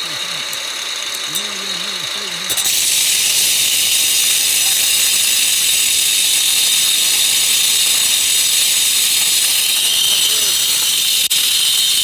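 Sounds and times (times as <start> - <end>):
grinder against metal: 0.0 - 12.0.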